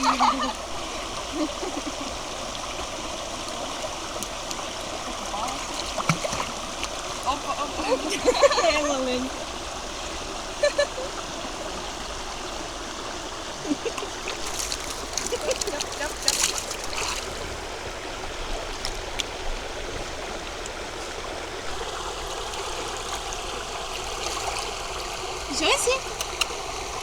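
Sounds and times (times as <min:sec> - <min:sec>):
river water running: 0:00.0 - 0:27.0
water splashes: 0:00.0 - 0:27.0.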